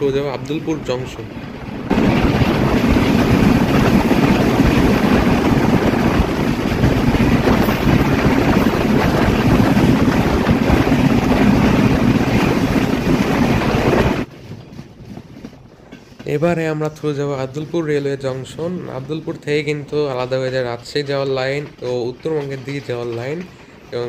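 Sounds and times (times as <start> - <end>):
wind buffeting microphone: 0.0 - 21.1
fast passenger train running: 0.0 - 24.0.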